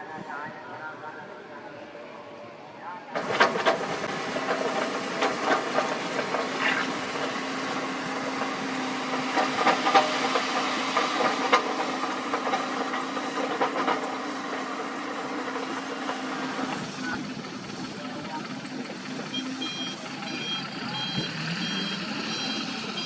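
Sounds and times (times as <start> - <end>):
excavator running: 3.1 - 23.0.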